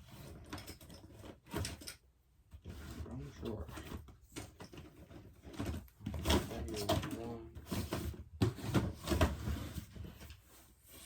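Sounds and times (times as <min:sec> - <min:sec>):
drawers opening and shutting: 0:00.0 - 0:10.3.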